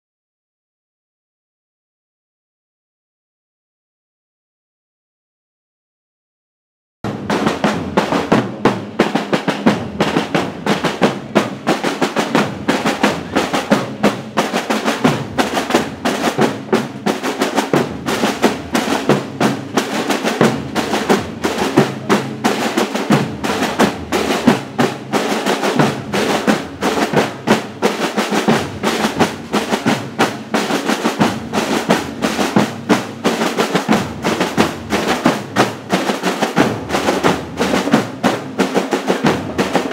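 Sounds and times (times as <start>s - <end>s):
marching drumline cadence: 7.0s - 39.9s.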